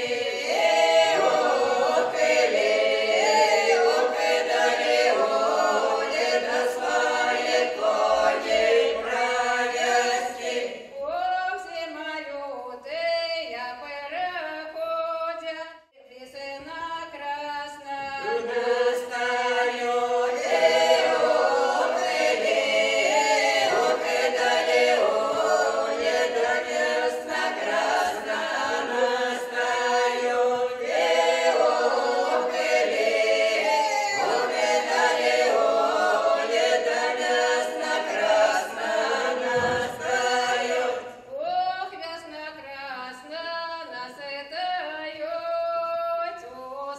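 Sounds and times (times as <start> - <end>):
group singing in harmony: 0.0 - 12.2, 16.3 - 42.0.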